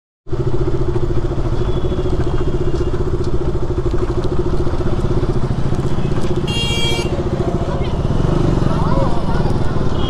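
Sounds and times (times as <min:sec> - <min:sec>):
motorcycle engine running: 0:00.3 - 0:10.0.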